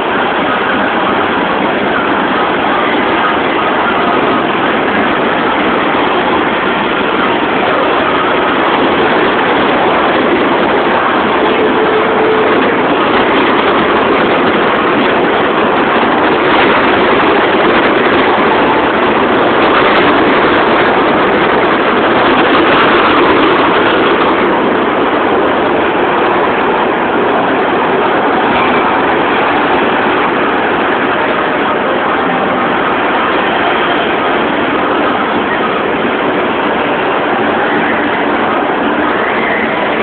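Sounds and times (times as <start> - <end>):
miniature train rumbling: 0.0 - 40.0.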